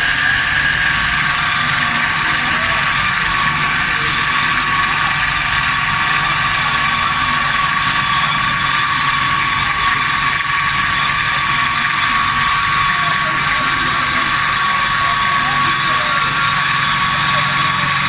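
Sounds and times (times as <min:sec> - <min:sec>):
metal-cutting band saw whining: 0:00.0 - 0:18.0.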